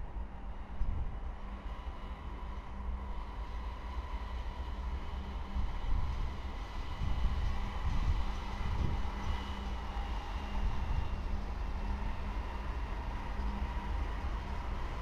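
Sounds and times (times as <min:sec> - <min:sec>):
diesel locomotives passing: 0:00.0 - 0:15.0.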